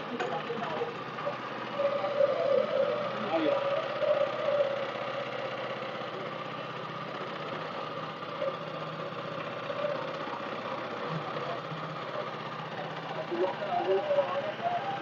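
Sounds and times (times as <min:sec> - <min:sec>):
boat motor chugging: 0:00.0 - 0:15.0.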